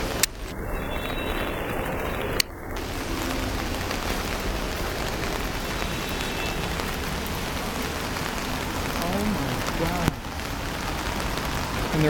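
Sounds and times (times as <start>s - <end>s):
chatter of huge bird flock: 0.0s - 12.0s.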